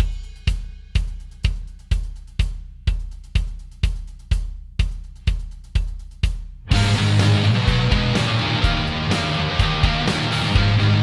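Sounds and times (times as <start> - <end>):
steady drum beat: 0.0 - 11.0.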